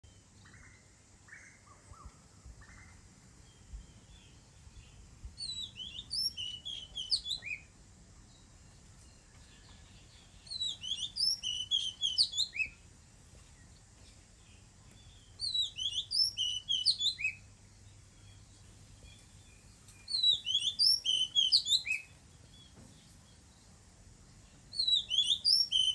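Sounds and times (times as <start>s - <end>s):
bird singing whistled notes: 0.0s - 7.7s, 8.3s - 12.8s, 14.4s - 23.7s, 24.7s - 25.9s.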